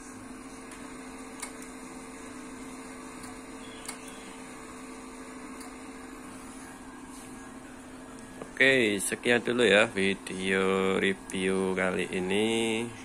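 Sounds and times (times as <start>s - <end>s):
electrical hum: 0.0s - 13.0s
fan whir: 0.0s - 13.0s.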